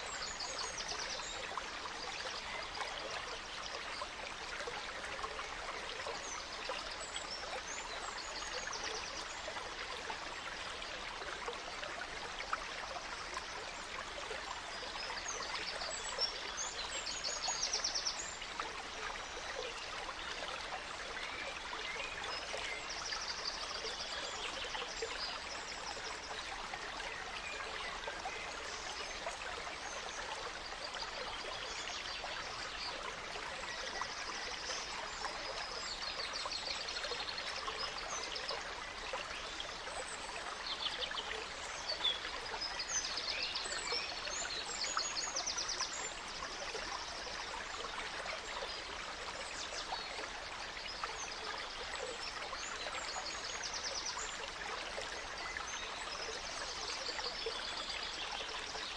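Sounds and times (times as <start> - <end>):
gentle stream running: 0.0 - 58.9.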